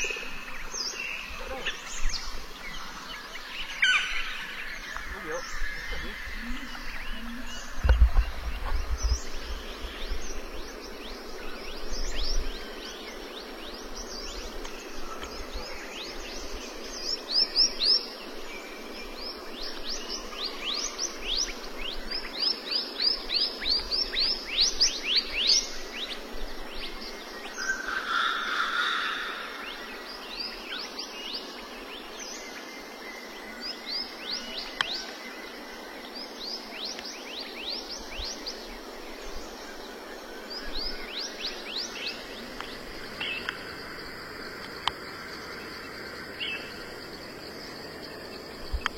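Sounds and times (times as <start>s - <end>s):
steady background hiss: 0.0s - 48.9s.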